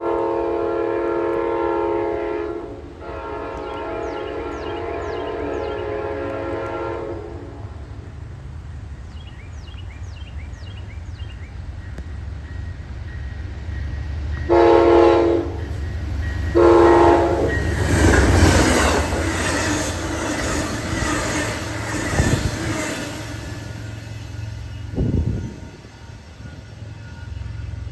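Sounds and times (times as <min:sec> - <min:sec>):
train horn blasts: 0:00.0 - 0:07.9, 0:11.9 - 0:27.9
train rushing past: 0:00.0 - 0:27.9.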